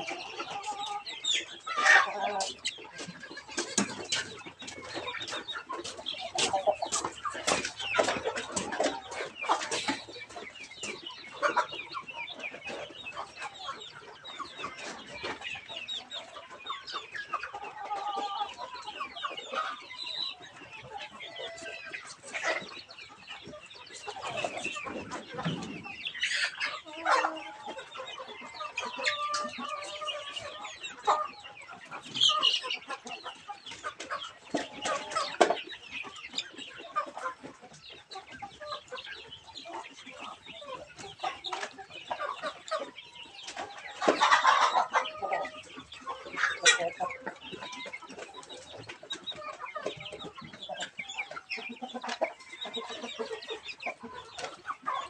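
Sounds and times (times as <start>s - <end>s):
beaks pecking feed from trough: 0.0s - 55.0s
chickens clucking softly: 0.0s - 55.0s.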